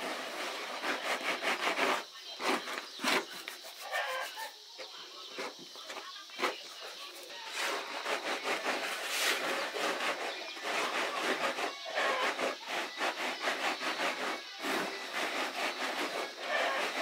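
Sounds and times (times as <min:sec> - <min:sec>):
hands rubbing flour on bamboo tray: 0:00.0 - 0:17.0.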